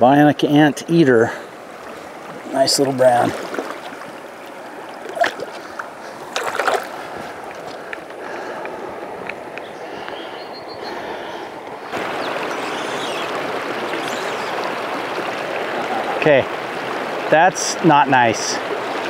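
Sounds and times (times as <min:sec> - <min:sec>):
small stream running: 0:00.0 - 0:19.0
water splashing and sloshing: 0:01.3 - 0:09.5, 0:11.6 - 0:19.0.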